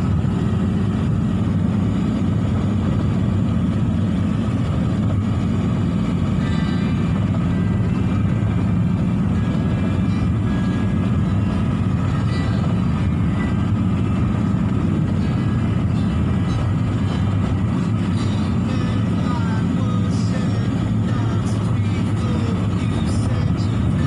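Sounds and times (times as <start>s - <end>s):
vehicle road and engine noise: 0.0s - 24.0s.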